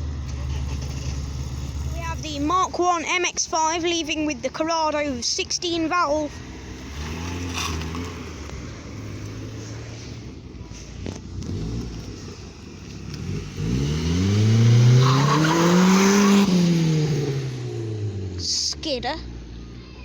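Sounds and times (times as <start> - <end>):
car accelerating hard: 0.0 - 3.7, 5.9 - 18.9
low engine note: 0.0 - 20.0.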